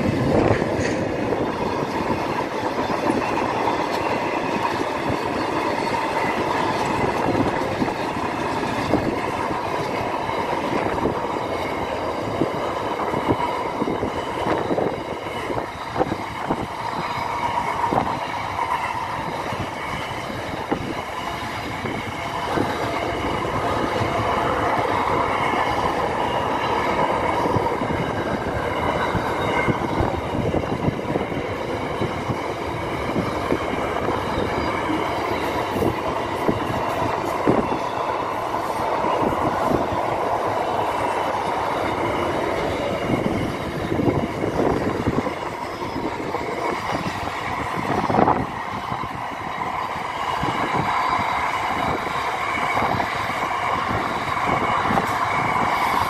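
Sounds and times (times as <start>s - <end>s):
freight train rumbling past: 0.0s - 56.0s
wheels clacking over rail joints: 0.0s - 56.0s.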